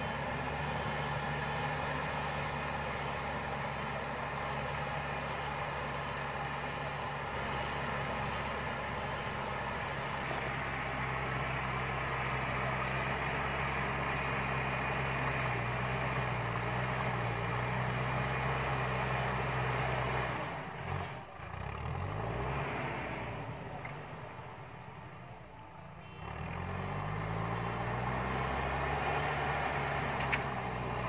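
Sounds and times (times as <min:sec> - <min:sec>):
diesel engine running under load: 0:00.0 - 0:31.0.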